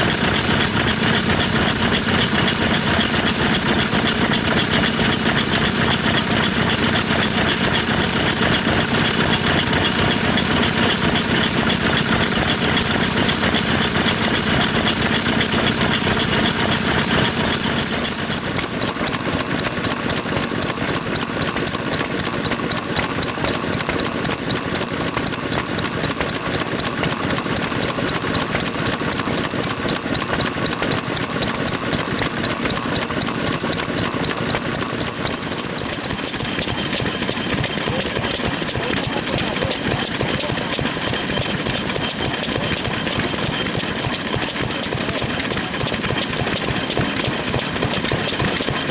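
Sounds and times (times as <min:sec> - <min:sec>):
stationary engines chugging: 0:00.0 - 0:48.9.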